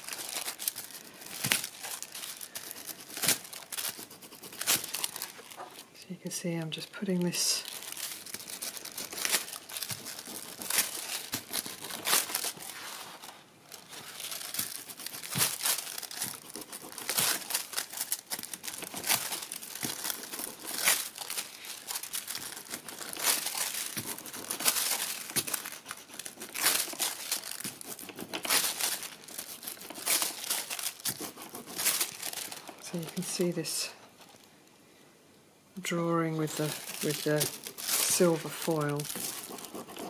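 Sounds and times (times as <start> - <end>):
foil crinkling and rustling: 0.0 - 5.9, 6.7 - 34.5, 36.2 - 40.0.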